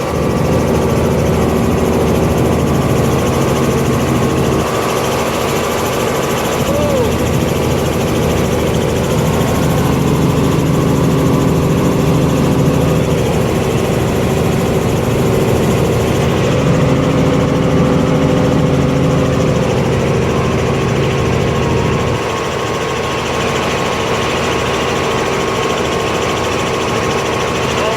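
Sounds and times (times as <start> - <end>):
helicopter engine and rotor: 0.0 - 27.9.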